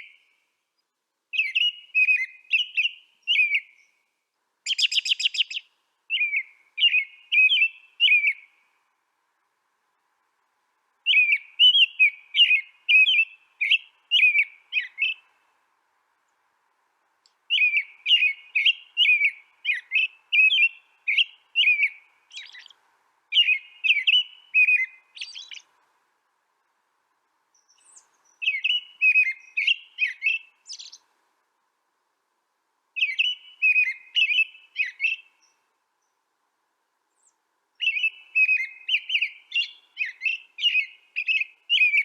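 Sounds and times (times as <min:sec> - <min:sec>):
songbird chirping: 0:00.0 - 0:32.2, 0:32.9 - 0:42.0.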